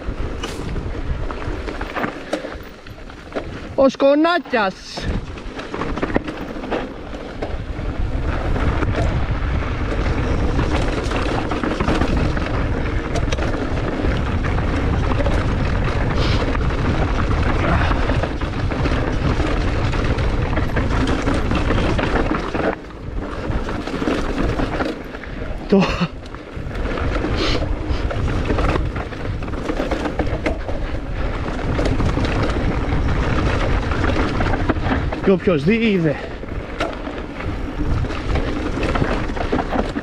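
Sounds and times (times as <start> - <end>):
wind rumble on microphone: 0.0 - 3.8, 4.7 - 40.0
bike clattering: 0.0 - 40.0.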